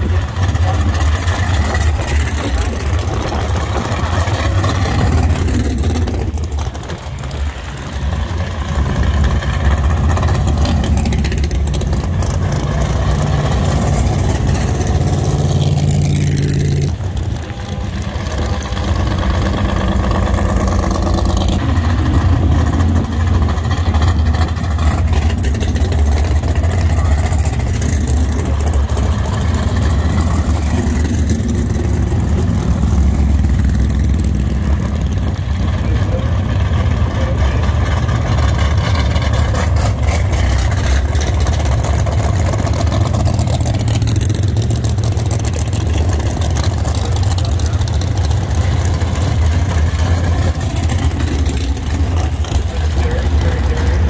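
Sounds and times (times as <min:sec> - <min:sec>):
race car engines rumbling: 0:00.0 - 0:54.0.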